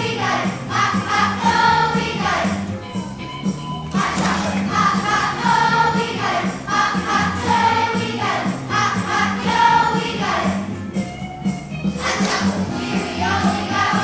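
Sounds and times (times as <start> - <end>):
children's choir singing: 0.0 - 3.0, 3.8 - 10.7, 11.9 - 14.0
instrumental accompaniment with beat: 0.0 - 14.0.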